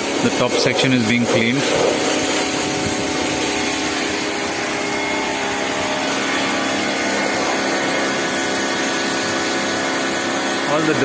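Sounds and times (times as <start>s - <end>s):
pressure washer motor running: 0.0s - 11.0s
water jet hissing on car: 0.0s - 11.0s.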